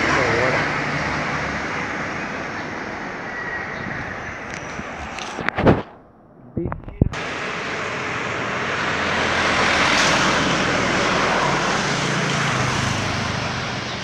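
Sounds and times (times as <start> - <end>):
vehicle passing by: 0.0 - 5.1, 7.2 - 14.0.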